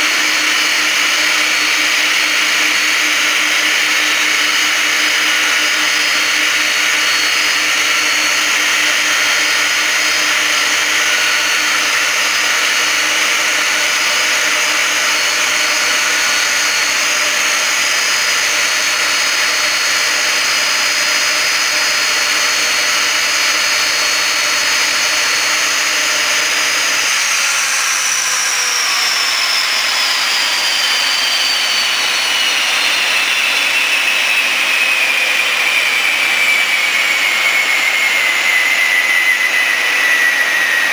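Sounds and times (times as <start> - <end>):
high whine falling in pitch: 0.0 - 40.9
jet engines whining: 0.0 - 40.9.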